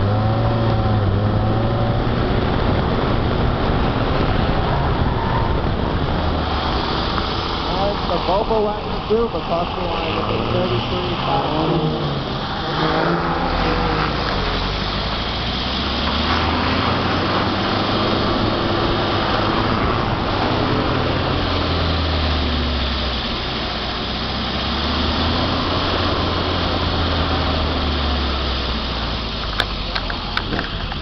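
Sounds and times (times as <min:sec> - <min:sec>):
car engine at low speed: 0:00.0 - 0:31.0
road and wind noise: 0:00.0 - 0:31.0.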